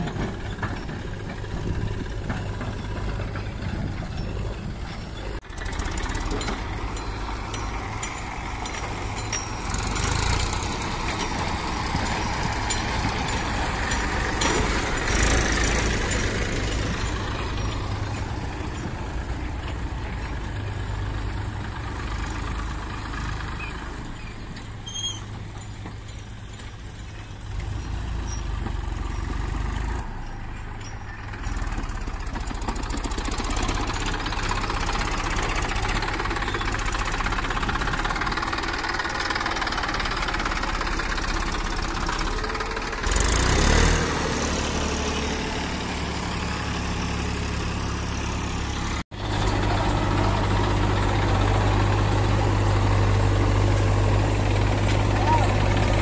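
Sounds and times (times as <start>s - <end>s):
diesel tractor engines running: 0.0s - 56.0s
tractor and backhoe idling: 0.0s - 56.0s.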